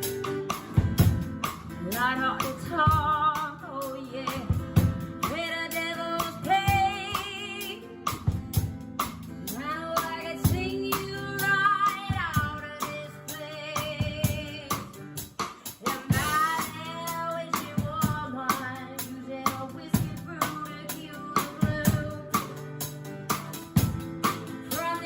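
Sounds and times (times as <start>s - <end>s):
instrumental backing with drum hits: 0.0s - 25.0s
woman singing: 1.7s - 8.2s, 9.4s - 25.0s.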